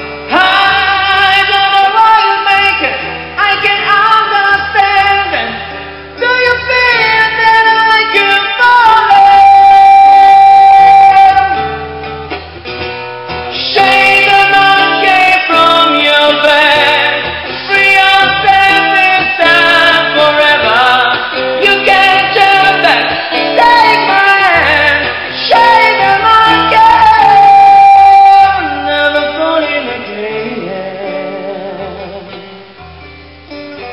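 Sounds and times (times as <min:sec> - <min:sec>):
man singing with vibrato: 0:00.0 - 0:11.8, 0:13.5 - 0:32.8
acoustic guitar: 0:00.0 - 0:33.9.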